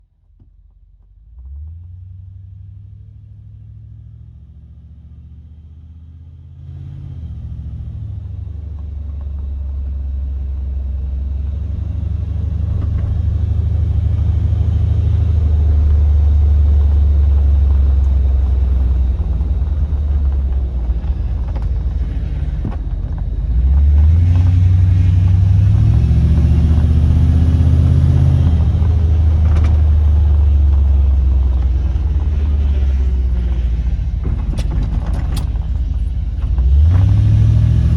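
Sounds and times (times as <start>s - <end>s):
truck engine rumbling: 0.0s - 37.9s.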